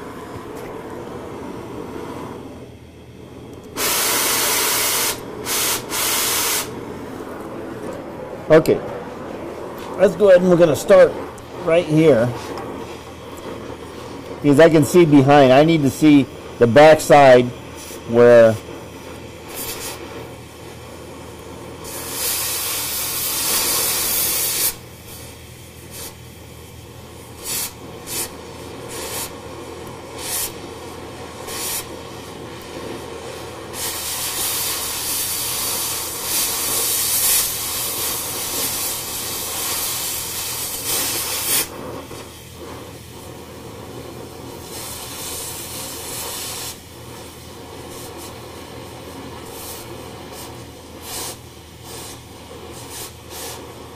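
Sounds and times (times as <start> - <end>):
cutting torch hissing: 0.0 - 53.9.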